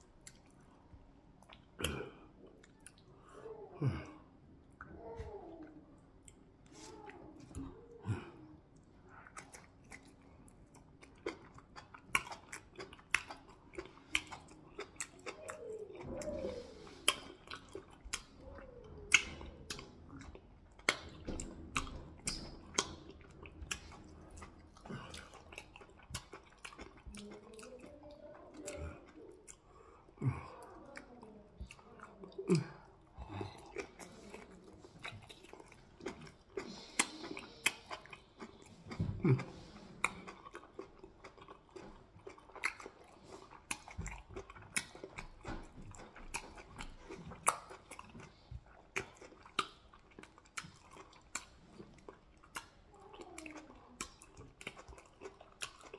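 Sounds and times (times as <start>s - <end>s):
chewing meat: 0.0s - 55.9s.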